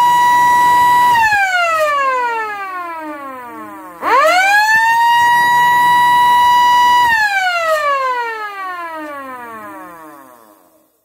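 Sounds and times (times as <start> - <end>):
electric siren wailing: 0.0 - 10.5.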